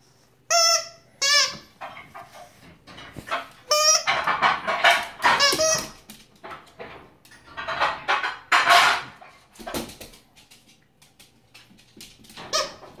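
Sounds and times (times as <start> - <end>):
dog claws clicking on floor: 1.8 - 13.0.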